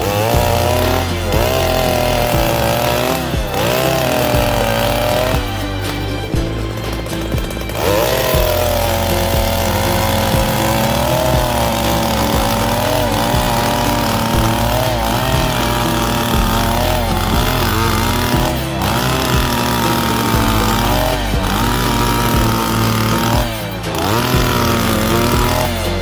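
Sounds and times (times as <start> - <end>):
earth auger engine running: 0.0 - 26.0.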